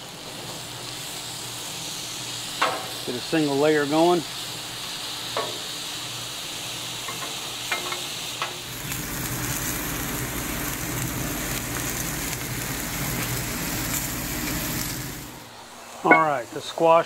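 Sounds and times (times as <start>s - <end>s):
zucchini sizzling on a griddle: 0.0s - 17.0s.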